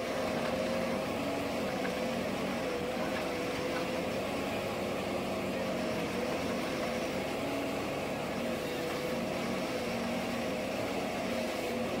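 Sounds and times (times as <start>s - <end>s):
forest harvester drone: 0.0s - 12.0s.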